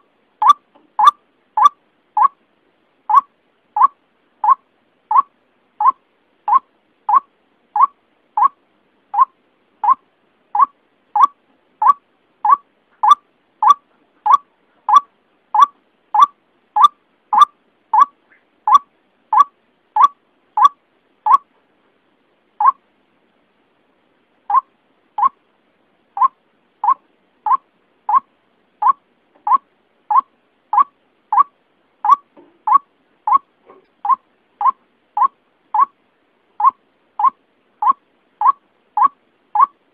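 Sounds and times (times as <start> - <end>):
waterhen call: 0.0 - 2.4, 3.1 - 8.6, 9.2 - 10.0, 10.6 - 21.5, 24.5 - 25.4, 26.2 - 36.0, 36.6 - 39.8.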